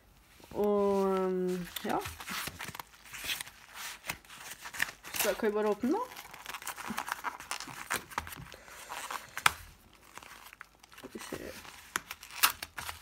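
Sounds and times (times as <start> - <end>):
paper envelope tearing: 1.0 - 13.0.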